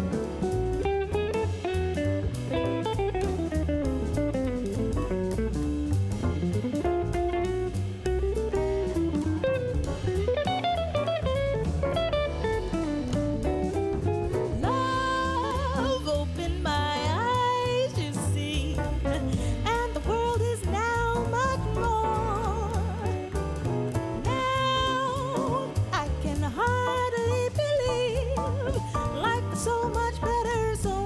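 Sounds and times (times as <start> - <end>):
guitar-led song with beat: 0.0 - 31.0.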